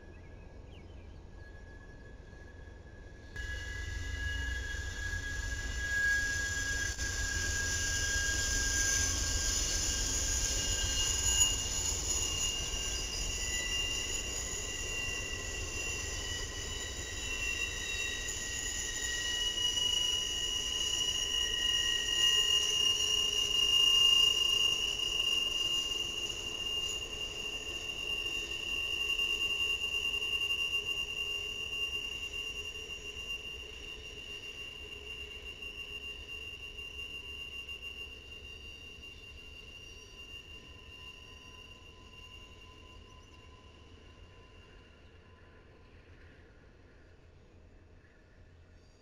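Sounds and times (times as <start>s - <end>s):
train wheels squealing: 0.0s - 49.0s.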